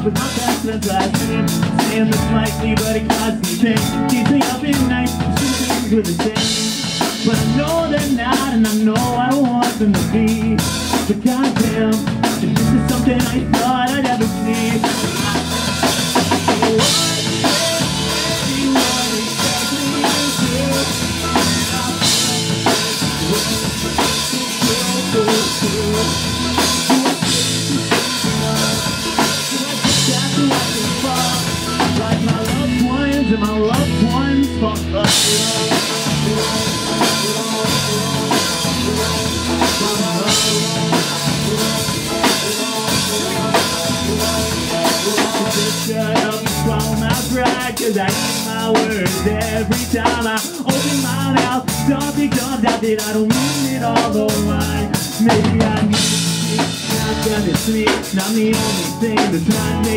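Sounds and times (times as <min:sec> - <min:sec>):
drum kit: 0:00.0 - 0:59.9
pop-punk band playing: 0:00.0 - 0:59.9.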